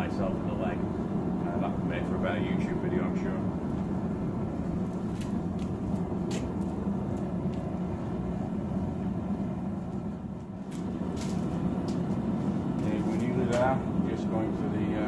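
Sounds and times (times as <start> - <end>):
forge burners rushing: 0.0 - 15.0.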